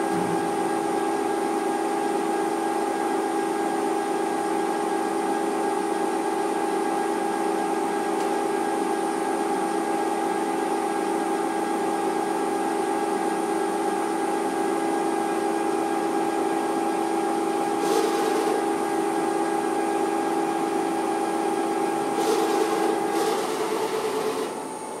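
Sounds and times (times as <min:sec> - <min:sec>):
machine hum with whine: 0:00.0 - 0:25.0.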